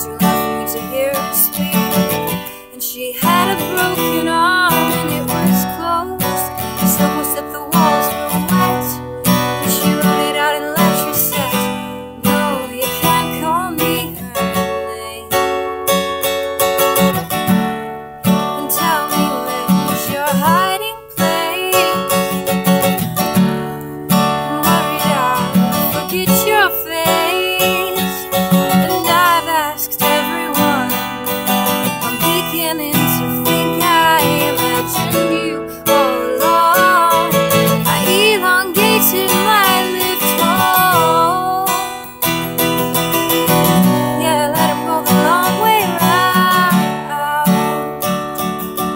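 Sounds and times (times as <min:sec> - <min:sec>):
woman singing: 0:00.0 - 0:15.7, 0:18.3 - 0:48.9
acoustic guitar strumming: 0:00.0 - 0:48.9.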